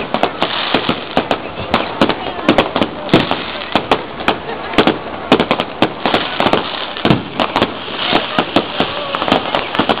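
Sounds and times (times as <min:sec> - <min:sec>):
continuous crackling hiss: 0:00.0 - 0:10.0.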